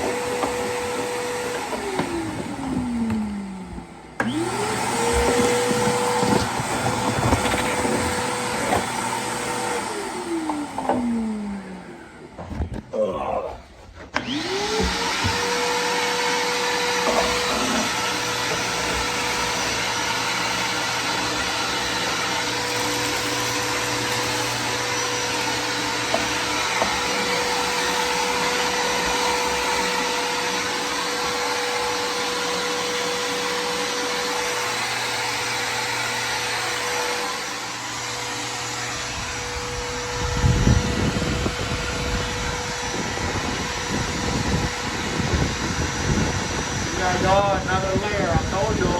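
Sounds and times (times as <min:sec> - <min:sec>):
vacuum cleaner motor: 0:00.0 - 0:48.9.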